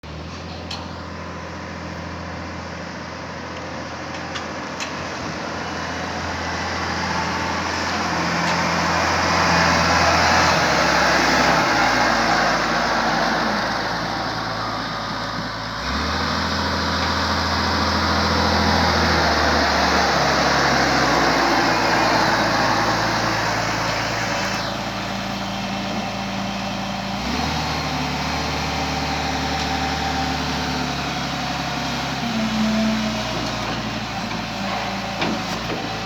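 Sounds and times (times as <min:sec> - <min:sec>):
diesel loader engine running: 0:00.0 - 0:36.0.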